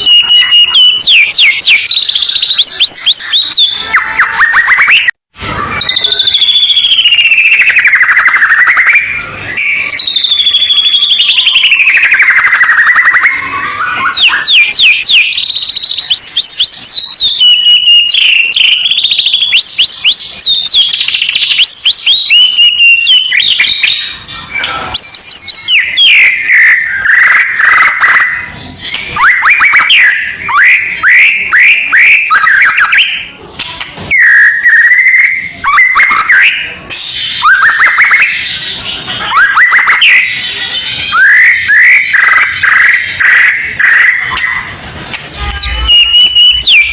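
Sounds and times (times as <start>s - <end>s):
songbird whistling and rattling: 0.0s - 5.1s, 5.7s - 46.9s.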